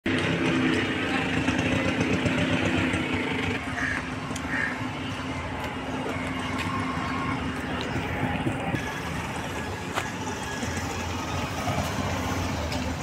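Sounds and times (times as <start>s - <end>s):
outdoor street noise: 0.0s - 13.0s
vehicle engine running: 0.0s - 13.0s.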